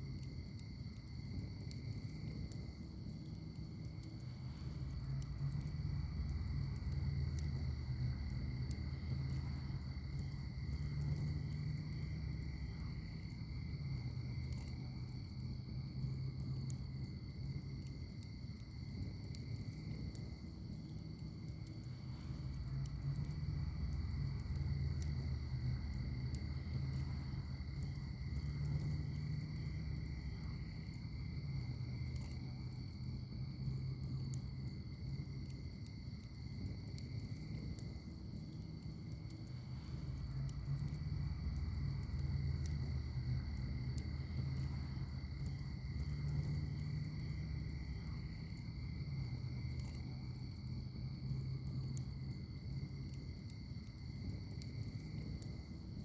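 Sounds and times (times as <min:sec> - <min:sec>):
crickets trilling: 0:00.0 - 0:56.0
wood fire crackling: 0:00.0 - 0:56.0.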